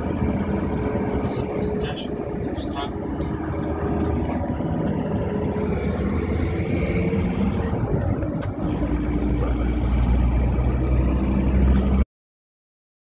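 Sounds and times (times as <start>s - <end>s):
car engine: 0.0s - 12.0s
deep rumble: 0.0s - 12.0s
tyres rushing on road: 0.0s - 12.0s
wind noise: 0.0s - 12.0s.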